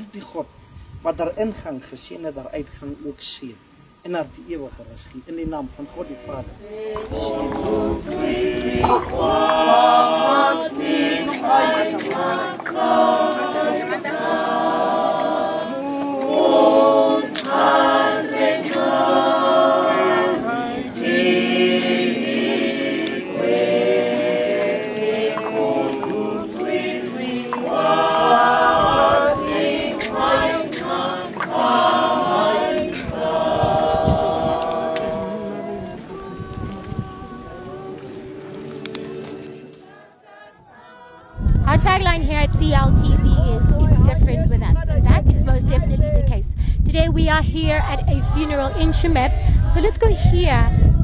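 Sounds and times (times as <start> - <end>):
choir singing unaccompanied: 5.3 - 44.2, 47.6 - 51.0.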